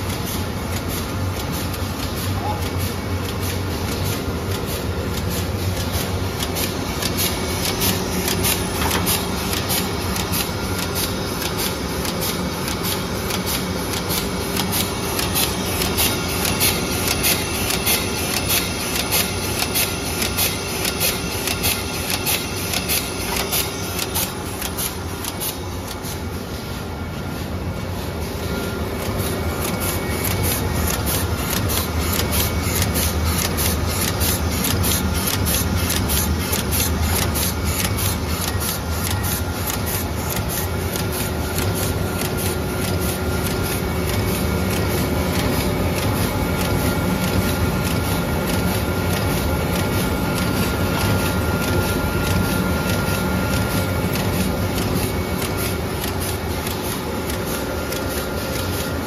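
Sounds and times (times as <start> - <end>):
machine mechanical hum: 0.0 - 59.0.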